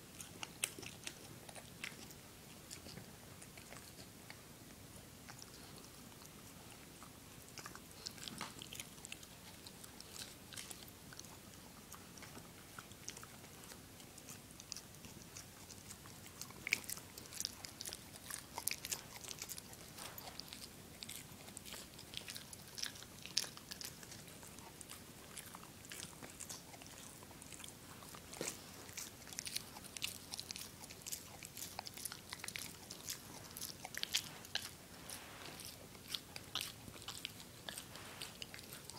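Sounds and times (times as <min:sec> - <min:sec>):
dog chewing rawhide: 0:00.0 - 0:04.4, 0:05.3 - 0:38.9.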